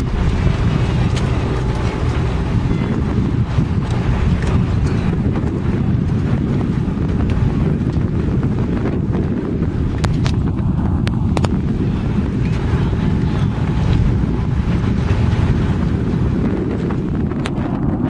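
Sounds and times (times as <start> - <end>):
open sea: 0.0 - 18.0
wind buffeting microphone: 0.0 - 18.0.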